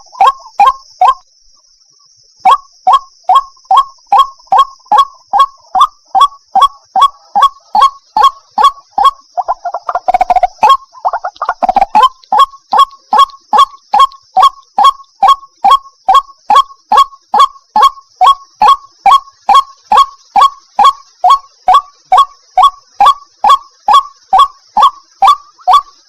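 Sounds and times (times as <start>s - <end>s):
bird calling: 0.0s - 1.2s, 2.4s - 26.0s.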